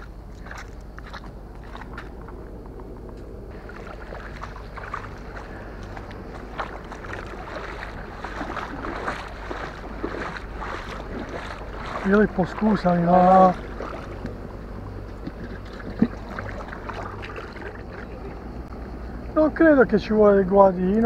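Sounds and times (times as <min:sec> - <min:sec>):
footsteps on wet sand: 0:00.0 - 0:19.3
splashing through shallow water: 0:00.0 - 0:21.0.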